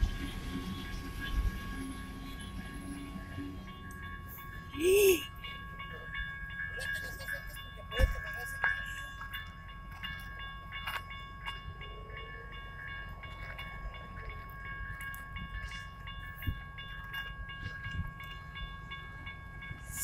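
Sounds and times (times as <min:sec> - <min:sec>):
freight train rumbling: 0:00.0 - 0:20.0
level-crossing warning bell: 0:00.0 - 0:20.0.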